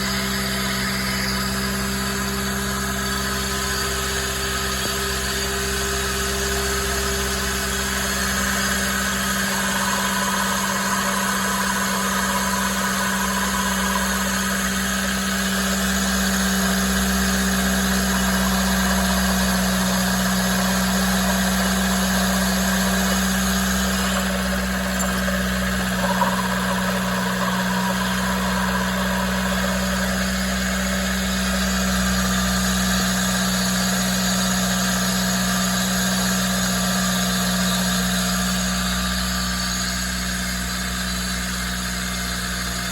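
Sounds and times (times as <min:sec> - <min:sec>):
engine idling with steady hum: 0:00.0 - 0:42.9.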